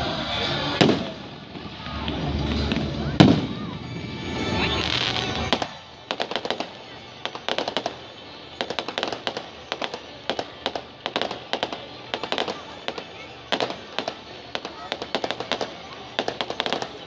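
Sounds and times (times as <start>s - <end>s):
firework crackling pops: 0.0s - 17.0s
firework hissing rush: 0.0s - 17.0s.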